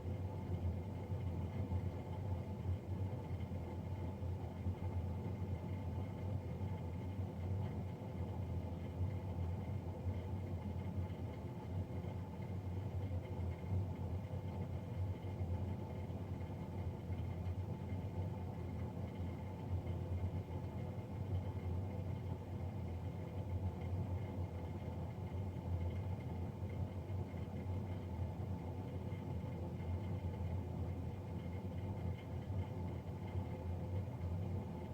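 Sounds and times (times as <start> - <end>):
boiler blower fan droning: 0.0 - 34.9.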